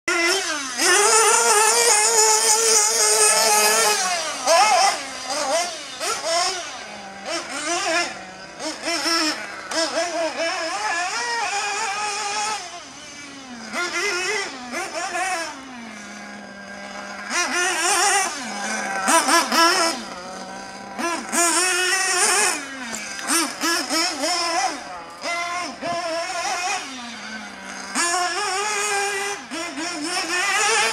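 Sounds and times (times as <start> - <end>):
rc buggy engine revving and idling: 0.1 - 30.9.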